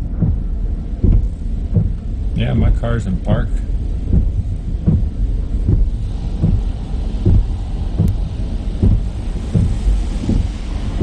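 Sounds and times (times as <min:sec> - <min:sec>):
car wash low rumble: 0:00.0 - 0:11.0
regular thumps: 0:00.0 - 0:11.0.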